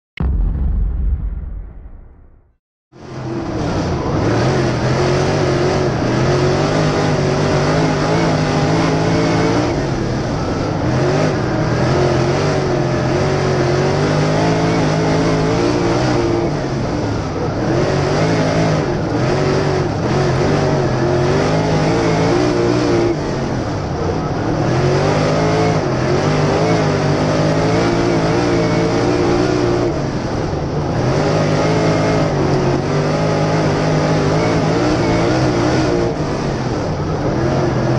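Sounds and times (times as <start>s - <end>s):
race car engine at speed: 3.0s - 37.9s.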